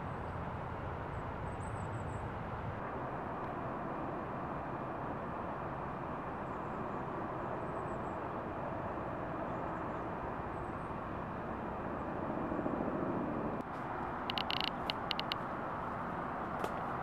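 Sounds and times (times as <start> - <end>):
roadside traffic noise: 0.0 - 17.0.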